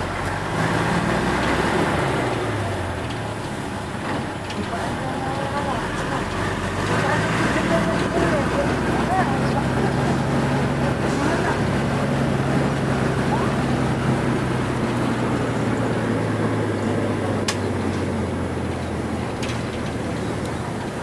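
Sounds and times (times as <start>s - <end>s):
bus engine hum: 0.0s - 21.0s
road noise: 0.0s - 21.0s.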